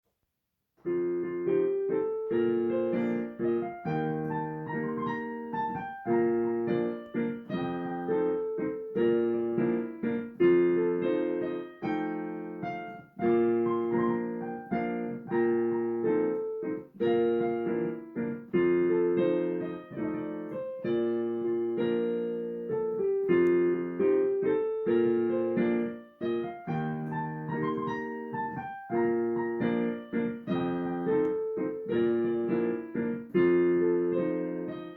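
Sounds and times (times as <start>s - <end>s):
solo piano playing: 0.8s - 34.9s.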